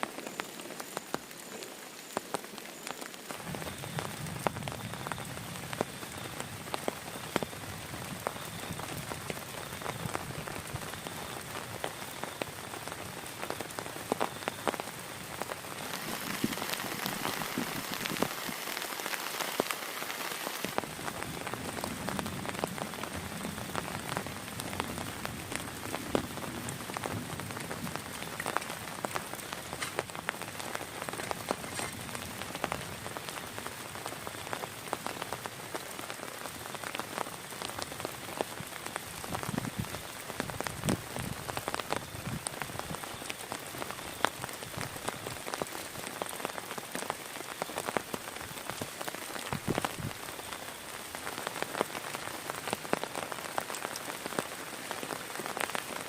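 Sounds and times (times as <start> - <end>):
heavy rain falling: 0.0 - 56.0
raindrops striking a surface: 0.0 - 56.0.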